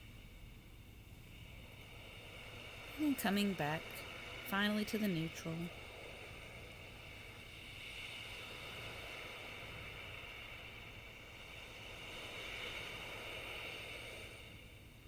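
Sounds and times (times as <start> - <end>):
ocean waves washing in: 0.0 - 15.0.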